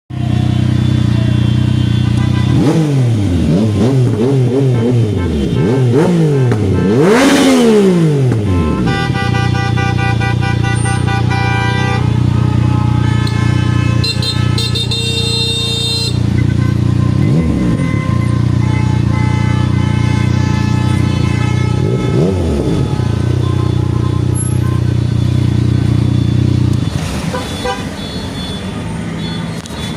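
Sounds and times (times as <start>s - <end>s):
motorcycle engine revving and idling: 0.1s - 28.0s.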